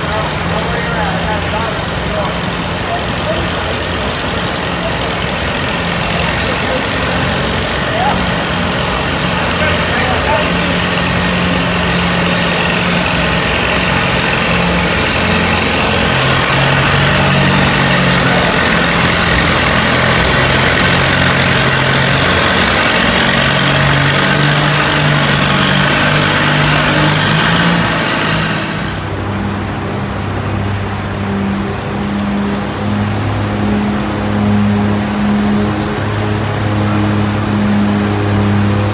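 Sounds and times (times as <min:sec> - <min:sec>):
tractor engine running hard: 0:00.0 - 0:38.9.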